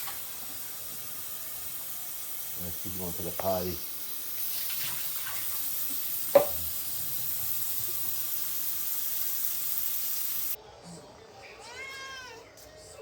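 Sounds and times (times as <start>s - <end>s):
steady rushing hiss: 0.0s - 10.6s.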